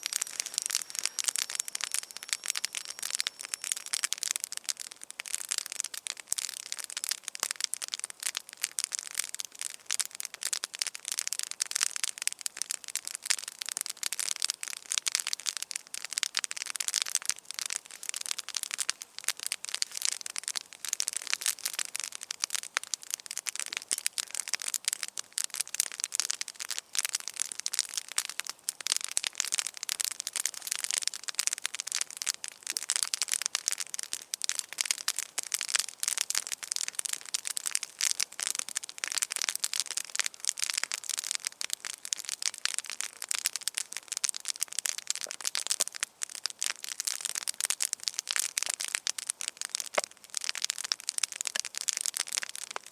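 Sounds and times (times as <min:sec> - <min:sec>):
wood campfire crackling: 0:00.0 - 0:52.9.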